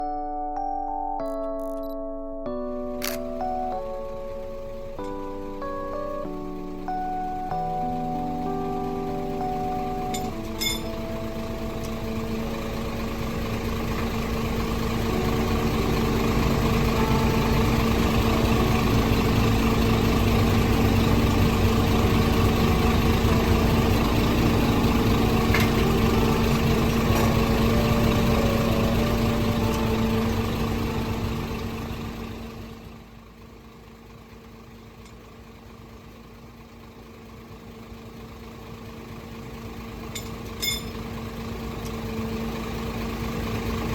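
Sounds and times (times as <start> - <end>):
truck diesel engine idling: 2.7 - 43.9.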